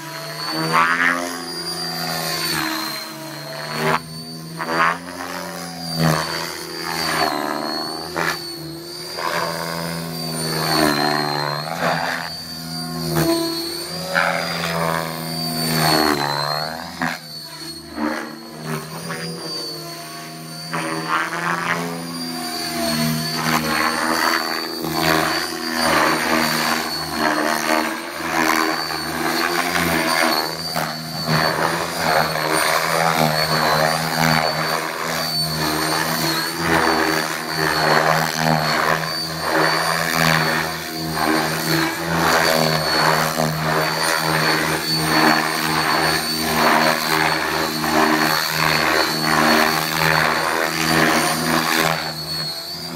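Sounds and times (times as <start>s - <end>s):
model helicopter rotor: 0.0s - 52.9s
steady high whine: 0.0s - 52.9s.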